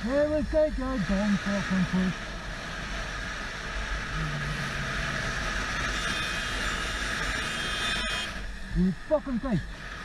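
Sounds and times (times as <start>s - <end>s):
motorcycle engine hum: 0.0s - 10.0s
wind and road noise: 0.0s - 10.0s.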